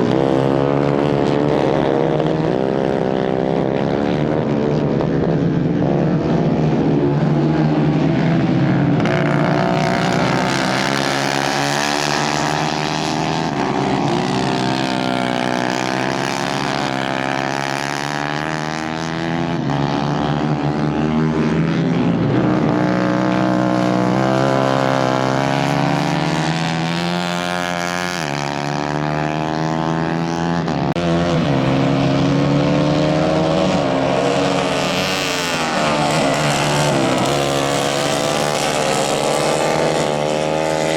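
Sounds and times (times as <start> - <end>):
racing kart engines: 0.0 - 40.9.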